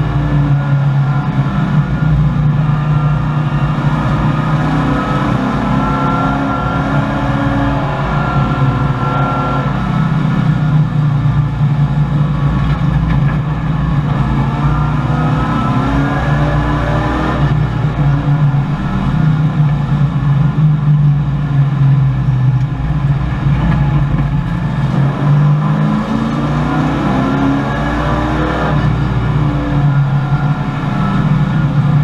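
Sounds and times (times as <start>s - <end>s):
race car engine running hard: 0.0s - 32.0s.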